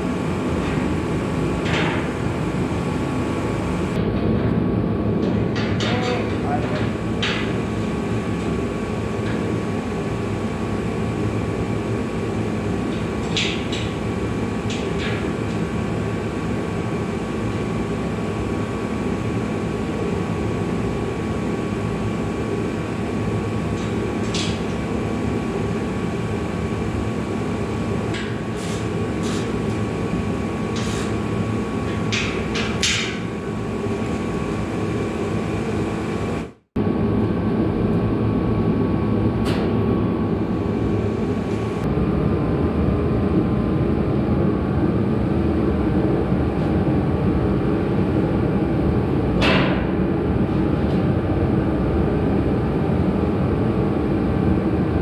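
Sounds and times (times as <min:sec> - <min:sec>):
steady mechanical droning: 0:00.0 - 0:55.0.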